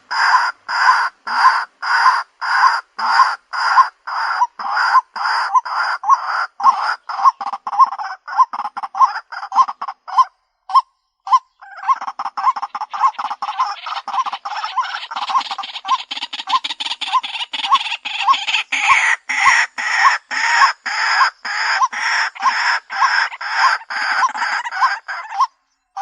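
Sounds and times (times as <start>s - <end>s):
waterhen harsh calls: 0.0s - 26.0s.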